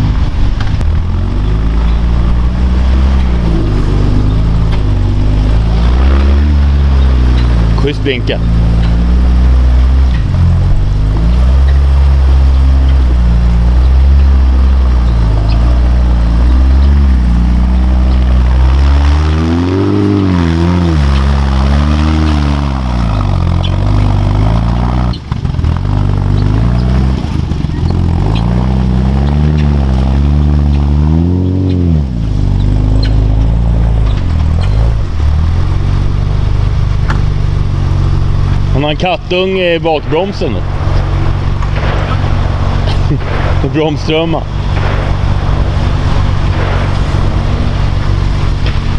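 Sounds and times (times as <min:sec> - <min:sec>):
drivetrain clunks: 0:00.0 - 0:48.9
off-road vehicle engine revving: 0:00.0 - 0:48.9.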